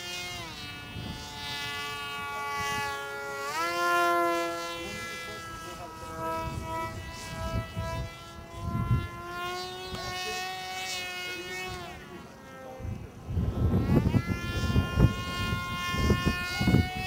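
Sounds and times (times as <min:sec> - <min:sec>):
model aircraft motor whining: 0:00.0 - 0:17.0
wind buffeting microphone: 0:00.2 - 0:17.0.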